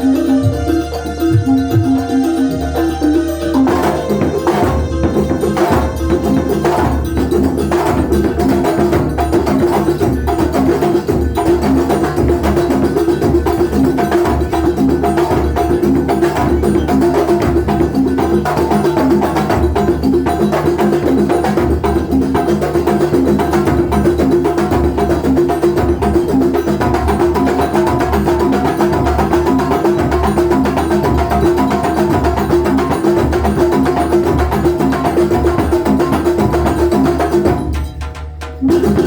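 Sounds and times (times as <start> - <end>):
percussion ensemble playing: 0.0 - 39.0.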